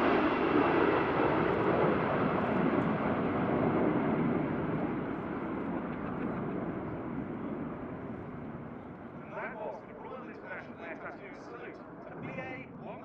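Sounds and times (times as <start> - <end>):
jet aircraft rumble: 0.0 - 13.0.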